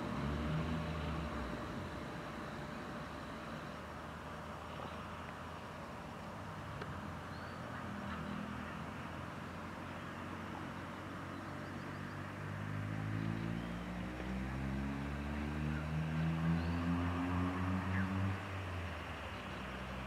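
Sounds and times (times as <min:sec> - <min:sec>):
diesel railbus engine hum: 0:00.0 - 0:20.0.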